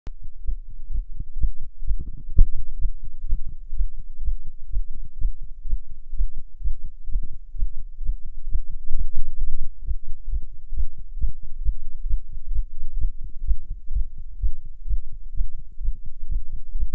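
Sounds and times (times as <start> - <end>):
steady low hum: 0.1 - 16.9
heartbeat thumps: 0.2 - 16.9.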